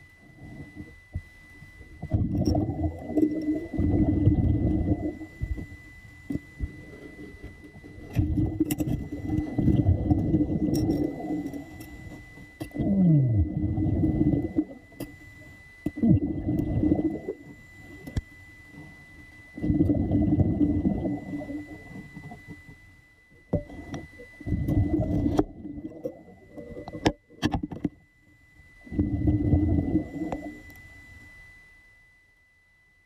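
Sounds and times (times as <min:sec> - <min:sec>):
faint steady high tone: 0:00.0 - 0:33.0.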